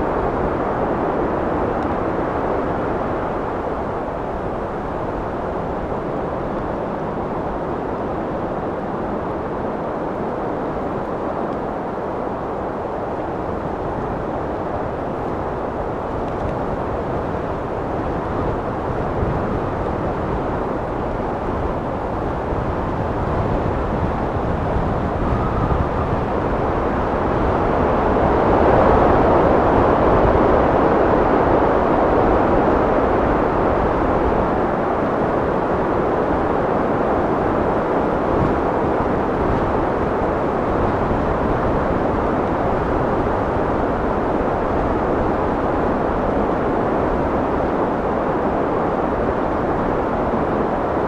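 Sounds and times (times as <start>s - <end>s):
wind blowing: 0.0s - 51.0s.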